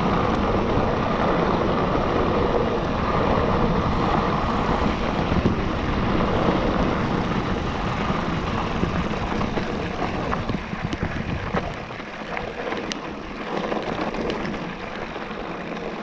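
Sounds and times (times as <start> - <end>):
bike tyres rolling on dirt: 0.0 - 16.0
gravel and bike rattles: 0.0 - 16.0
wind on microphone: 0.0 - 16.0.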